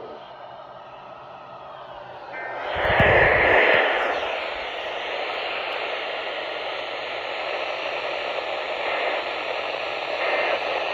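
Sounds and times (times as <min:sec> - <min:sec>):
radio static hiss: 0:00.0 - 0:00.3, 0:02.3 - 0:10.9.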